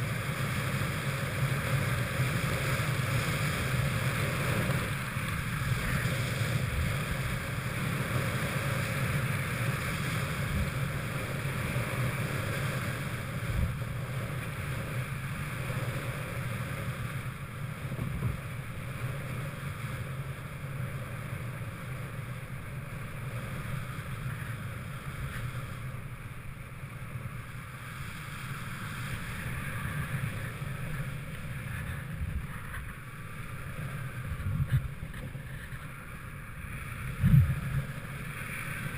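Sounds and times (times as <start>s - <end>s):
wind rushing over microphone: 0.0s - 26.1s, 27.6s - 38.9s.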